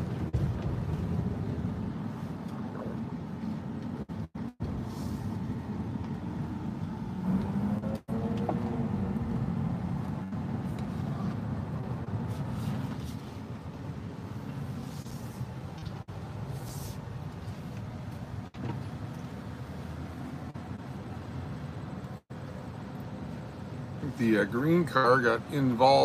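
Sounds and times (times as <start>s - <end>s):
engine and road hum in car: 0.0s - 26.0s.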